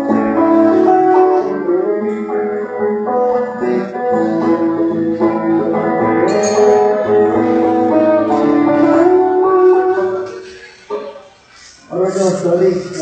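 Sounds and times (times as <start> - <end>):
acoustic band with guitar: 0.0 - 13.0.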